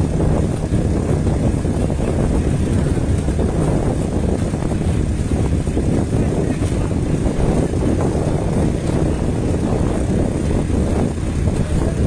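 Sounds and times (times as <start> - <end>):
boat rumbling: 0.0 - 12.0
wind buffeting microphone: 0.0 - 12.0.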